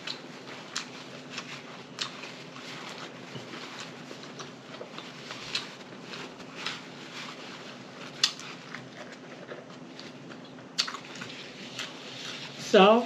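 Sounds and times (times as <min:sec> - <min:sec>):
person chewing food: 0:00.0 - 0:12.6
faint steady hum: 0:00.0 - 0:13.0.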